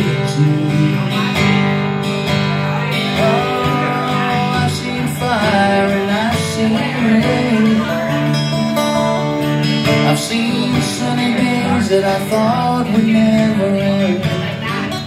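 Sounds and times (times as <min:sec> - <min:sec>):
acoustic guitars strumming: 0:00.0 - 0:15.0.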